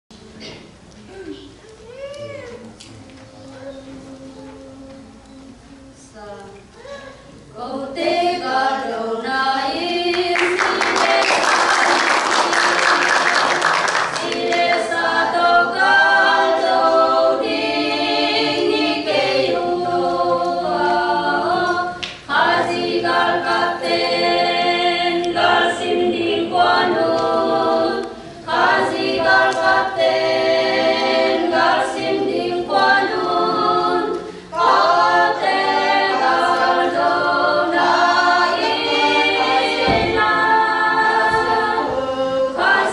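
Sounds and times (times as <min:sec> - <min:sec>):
women's choir singing a cappella: 0:02.8 - 0:06.7, 0:07.4 - 0:42.9.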